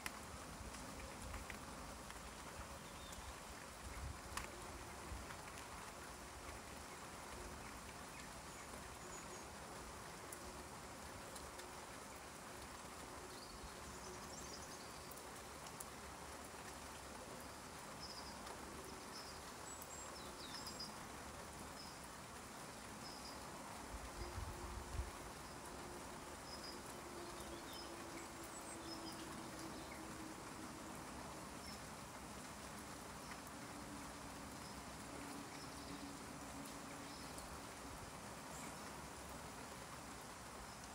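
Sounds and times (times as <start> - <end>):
light rain on foliage: 0.0 - 40.9.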